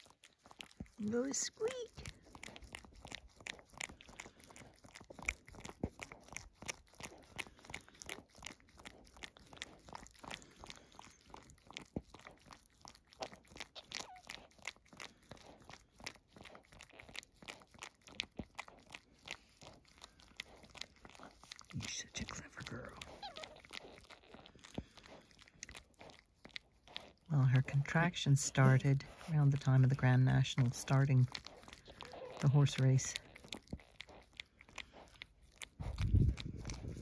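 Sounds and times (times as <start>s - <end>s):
dog licking puppy: 0.0s - 37.0s.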